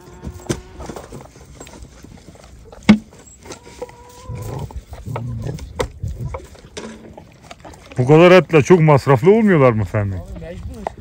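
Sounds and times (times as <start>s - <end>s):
dog chewing and crunching: 1.0s - 11.0s.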